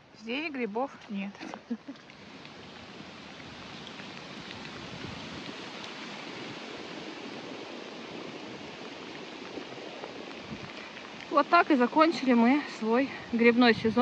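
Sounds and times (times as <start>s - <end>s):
patter of raindrops: 0.0s - 14.0s
steady rain hiss: 0.0s - 14.0s.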